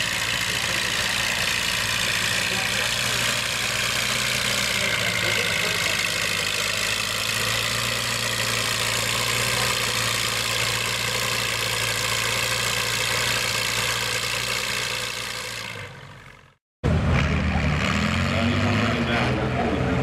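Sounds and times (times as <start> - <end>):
tractor engine idling: 0.0 - 16.6.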